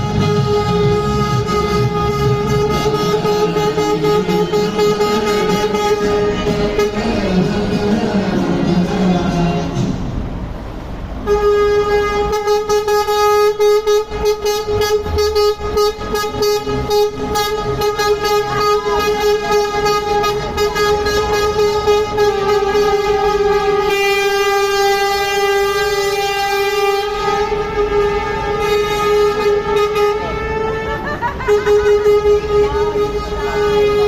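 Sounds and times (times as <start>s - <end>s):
truck horn blowing: 0.0s - 9.9s, 11.2s - 34.0s.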